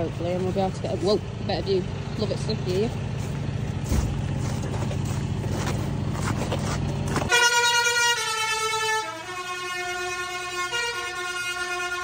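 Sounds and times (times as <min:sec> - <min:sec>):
low engine rumble: 0:00.0 - 0:11.9.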